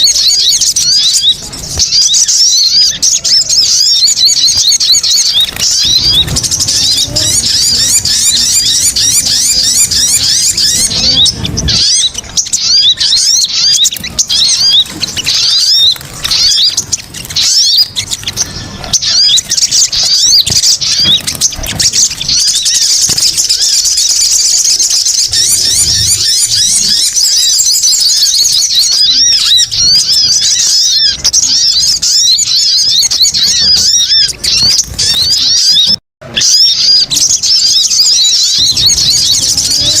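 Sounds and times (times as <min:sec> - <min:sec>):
songbird chirps and trills: 0:00.0 - 0:40.0.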